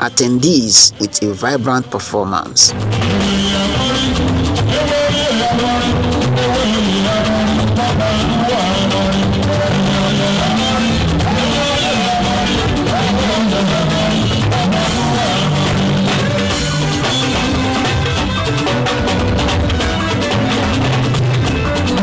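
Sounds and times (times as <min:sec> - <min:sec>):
band music with singing: 0:00.0 - 0:22.0.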